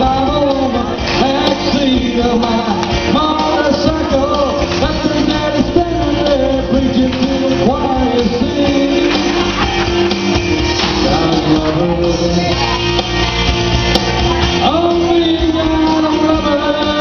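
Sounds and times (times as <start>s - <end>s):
man singing into a microphone: 0.0s - 9.6s, 10.8s - 12.9s, 14.6s - 17.0s
country rock backing track: 0.0s - 17.0s.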